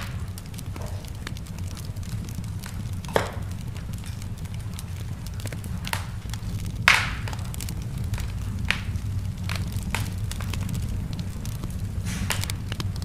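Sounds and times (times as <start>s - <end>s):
low rumble: 0.0s - 13.0s
wood fire crackling and popping: 0.0s - 13.0s.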